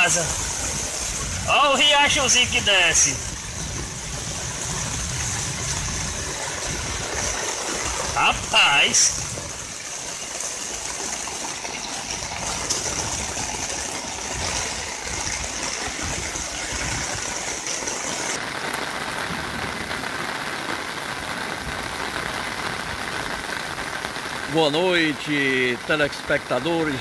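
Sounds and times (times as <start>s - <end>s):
rain washing on wet street: 0.0s - 27.0s
rainwater runoff rushing down street: 0.0s - 27.0s.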